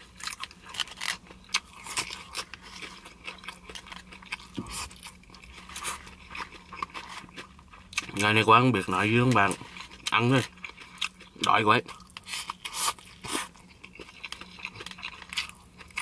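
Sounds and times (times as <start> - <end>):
close chewing with mouth clicks: 0.2 - 16.0.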